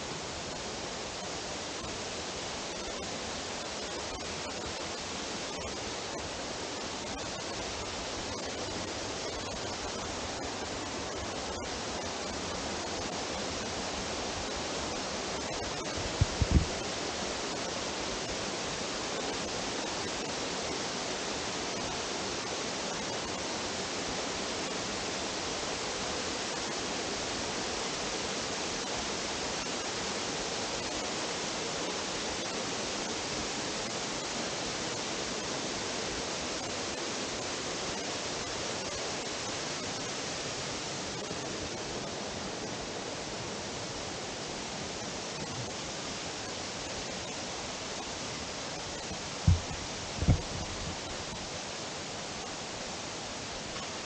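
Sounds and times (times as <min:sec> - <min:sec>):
waterfall rushing into pool: 0:00.0 - 0:54.0.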